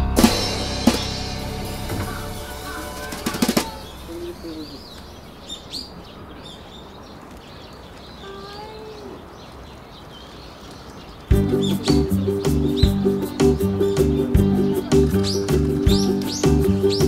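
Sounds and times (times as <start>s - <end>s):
small birds chirping: 0.9s - 17.0s.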